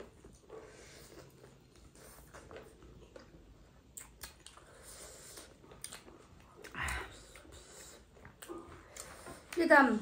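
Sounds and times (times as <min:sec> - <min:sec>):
people chewing food: 0:00.0 - 0:10.0.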